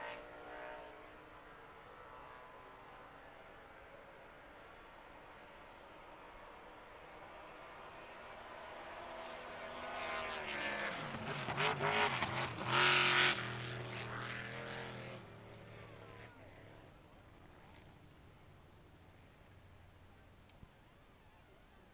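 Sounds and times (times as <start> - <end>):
racing boat engine passing by: 0.0 - 18.0.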